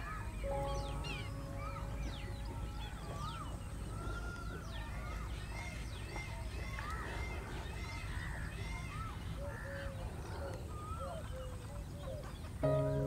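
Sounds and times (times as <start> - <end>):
bird chirps: 0.0 - 13.0
birds whistling: 0.0 - 13.0.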